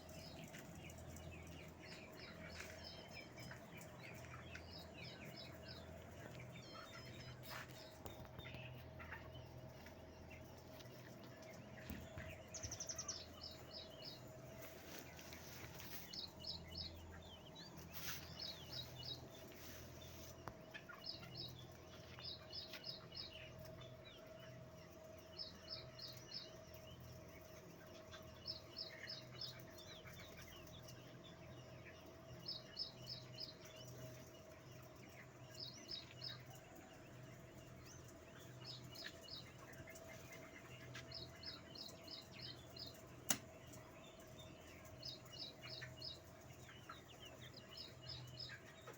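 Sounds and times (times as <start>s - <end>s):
chickens peeping: 0.0s - 48.9s
steady mechanical hum: 0.0s - 48.9s.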